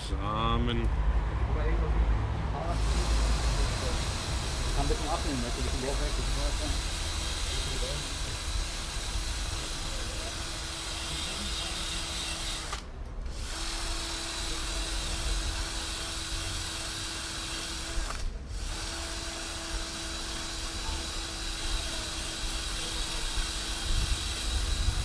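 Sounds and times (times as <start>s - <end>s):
bicycle hub whirring and clicking: 2.8s - 25.0s.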